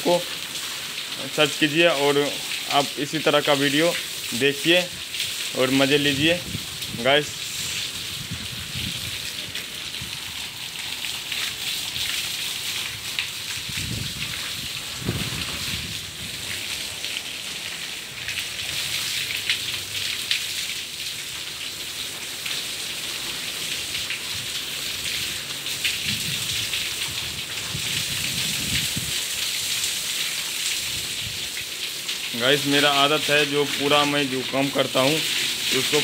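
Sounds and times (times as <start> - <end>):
water splashing onto wet floor: 0.0 - 36.0.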